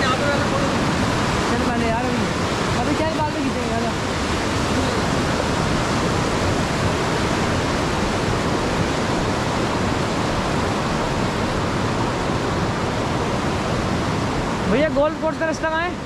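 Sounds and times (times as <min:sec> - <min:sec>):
river rushing over rapids: 0:00.0 - 0:16.0.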